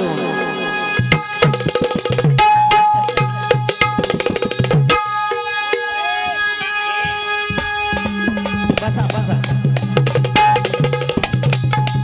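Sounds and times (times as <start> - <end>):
held instrumental notes: 0.0 - 12.0
fast hand drum strokes: 1.1 - 12.0.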